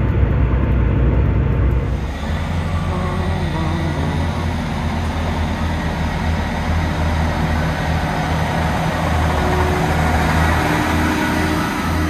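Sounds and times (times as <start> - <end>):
diesel train engines running: 0.0 - 12.0
wheels rumbling on rails: 0.0 - 12.0.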